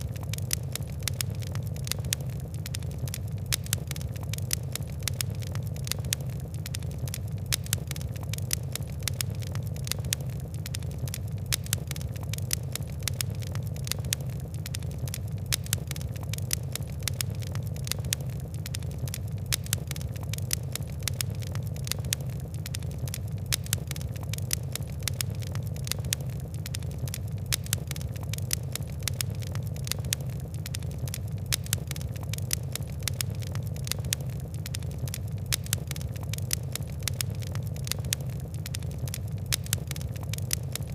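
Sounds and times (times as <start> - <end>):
fire crackles and pops: 0.0 - 40.9
low rumble of flames: 0.0 - 40.9.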